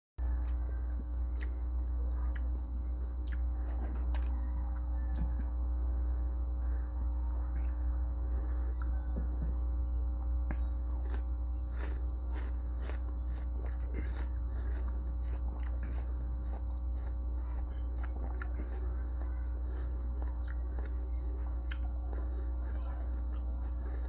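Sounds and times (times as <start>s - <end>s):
person chewing crisp fruit: 0.2s - 6.2s, 7.5s - 24.0s
steady low hum: 0.2s - 24.0s.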